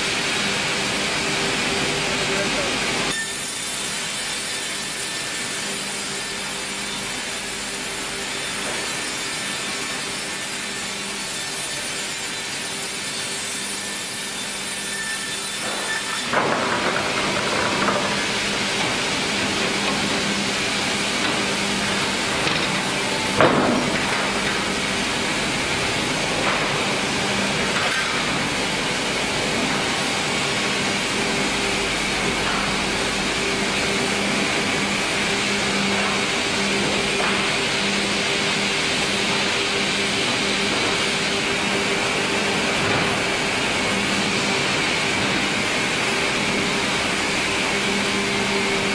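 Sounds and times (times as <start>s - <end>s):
saw cutting wooden board: 2.6s - 44.9s.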